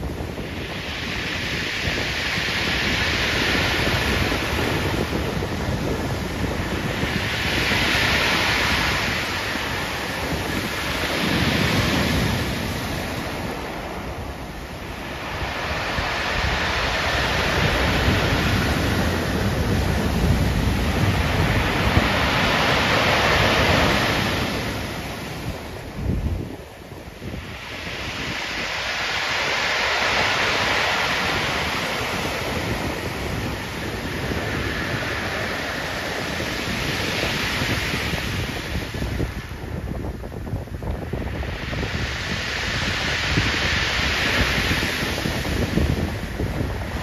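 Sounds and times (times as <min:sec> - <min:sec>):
waves breaking on pebble beach: 0:00.0 - 0:47.0
wind buffeting microphone: 0:00.0 - 0:47.0.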